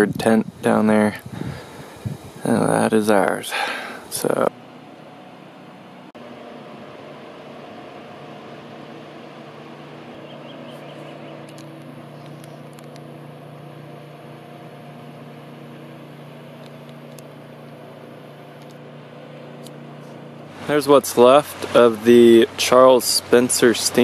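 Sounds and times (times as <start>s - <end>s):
distant motorboat engine: 0.0s - 24.0s.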